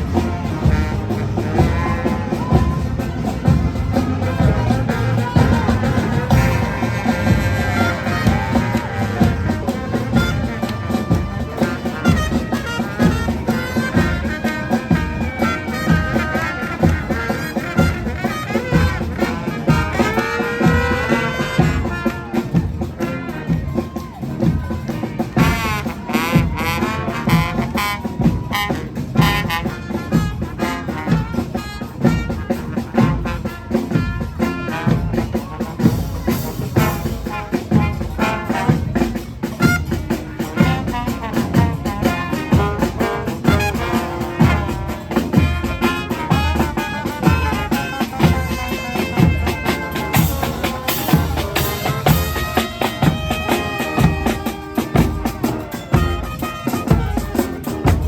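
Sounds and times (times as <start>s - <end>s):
brass band horns: 0.0s - 58.0s
sliding horn notes: 0.0s - 58.0s
steady drum beat: 0.0s - 58.0s.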